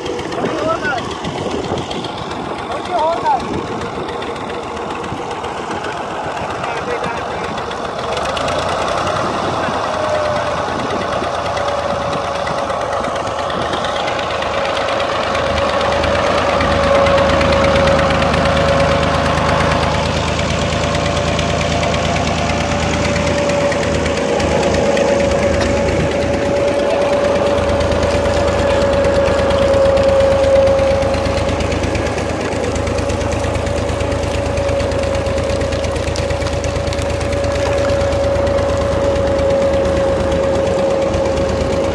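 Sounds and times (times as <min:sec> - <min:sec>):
steady machine whine: 0:00.0 - 0:41.9
tractor engine running under load: 0:00.0 - 0:41.9.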